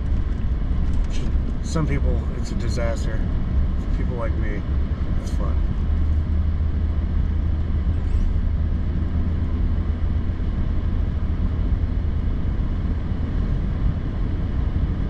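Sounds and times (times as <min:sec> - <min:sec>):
pickup truck engine rumble: 0:00.0 - 0:15.0
tyre noise on snowy road: 0:00.0 - 0:15.0.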